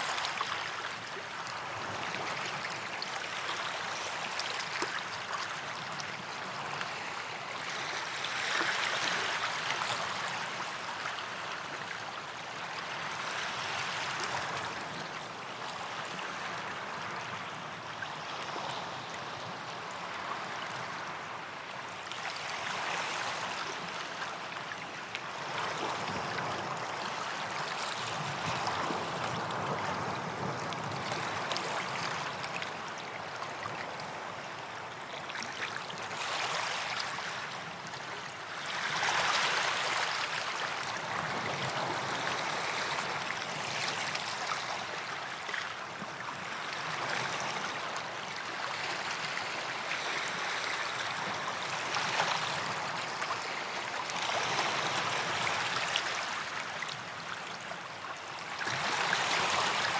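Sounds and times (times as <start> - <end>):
small waves lapping on beach: 0.0 - 59.9.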